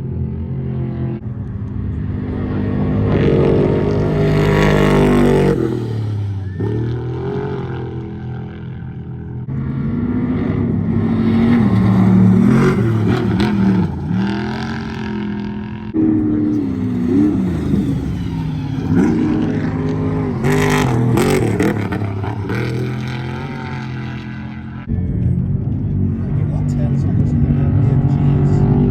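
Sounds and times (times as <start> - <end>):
race engines revving: 0.0 - 28.9.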